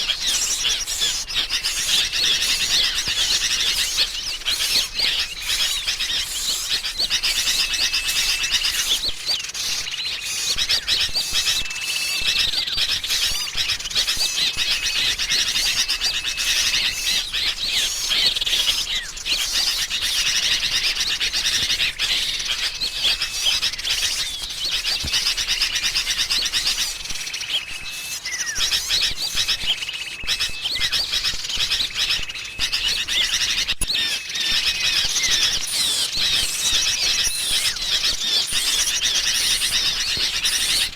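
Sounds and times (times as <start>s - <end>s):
small bird chirps and twitters: 0.0s - 40.9s.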